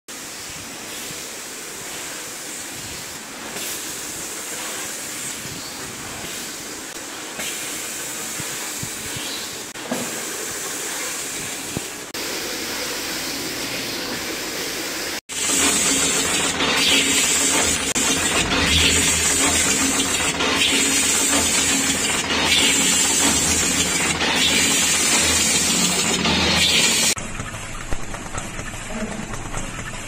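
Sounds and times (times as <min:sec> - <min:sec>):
machines hissing: 0:00.1 - 0:27.2.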